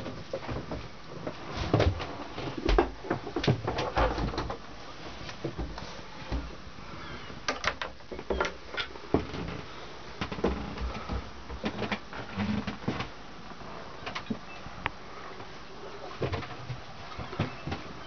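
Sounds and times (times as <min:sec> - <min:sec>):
footsteps in wooden cabin: 0:00.0 - 0:18.0
steady background hiss: 0:00.0 - 0:18.0.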